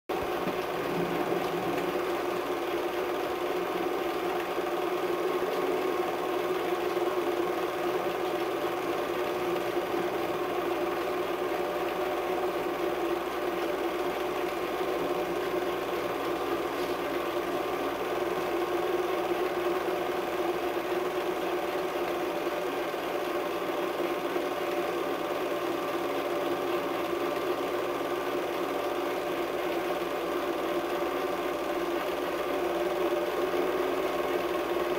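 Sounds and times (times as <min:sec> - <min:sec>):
film projector whirring: 0:00.1 - 0:34.9.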